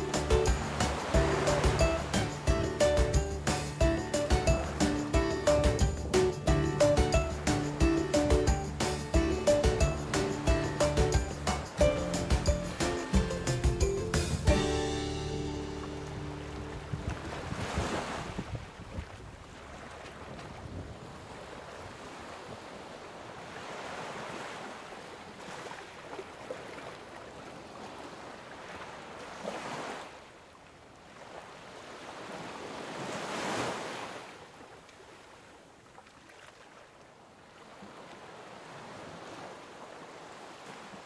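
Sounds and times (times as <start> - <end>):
sea waves washing: 0.0 - 30.4, 31.0 - 41.0
wind: 0.0 - 41.0.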